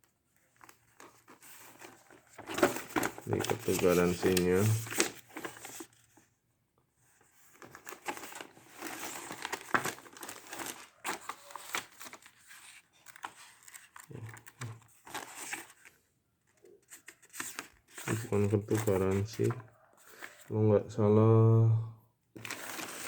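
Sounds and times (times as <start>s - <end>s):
paper rustling and crinkling: 0.1s - 6.3s, 7.0s - 20.5s, 22.4s - 23.0s.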